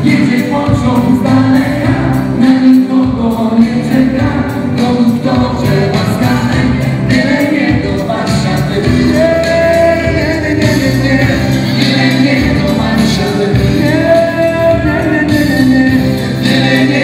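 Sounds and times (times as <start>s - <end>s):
dance music with singing over pa: 0.0s - 17.0s.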